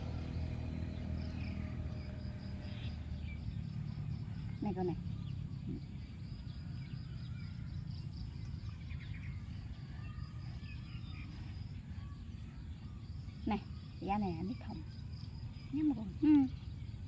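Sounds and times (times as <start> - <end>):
faint birds chirping: 0.0 - 17.0
insects calling: 0.0 - 17.0.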